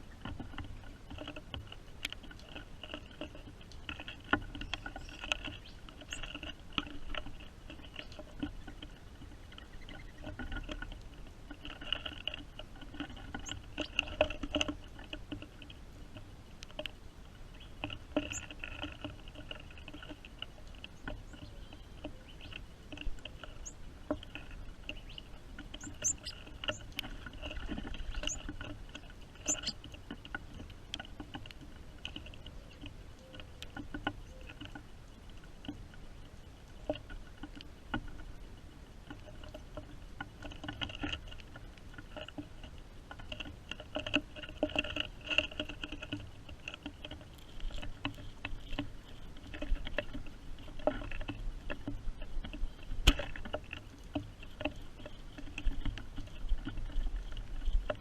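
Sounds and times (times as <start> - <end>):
rain pattering and dripping: 0.0 - 58.0.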